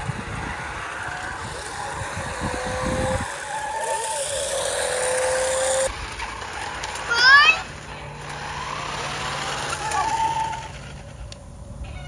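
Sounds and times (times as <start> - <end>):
toy car motors whining: 0.0 - 12.0.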